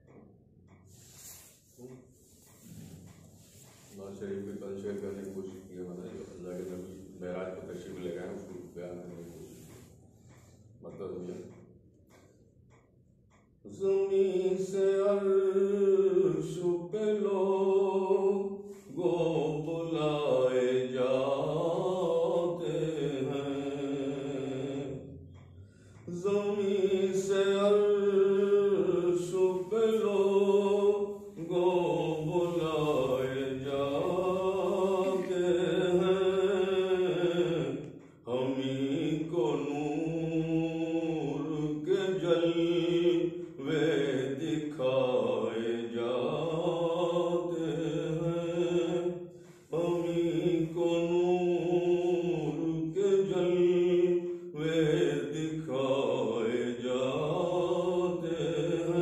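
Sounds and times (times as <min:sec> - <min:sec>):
man chanting devotional poem: 0:01.0 - 0:11.7, 0:13.6 - 0:59.0.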